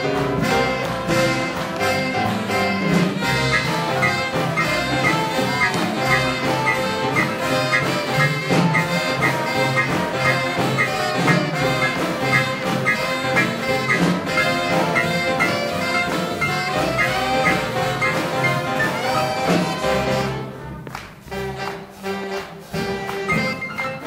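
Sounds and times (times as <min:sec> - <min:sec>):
big band swing jazz: 0:00.0 - 0:24.0.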